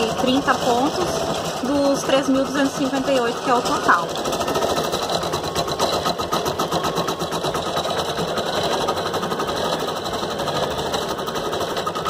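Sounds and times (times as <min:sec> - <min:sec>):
embroidery machine stitching: 0:00.0 - 0:12.0.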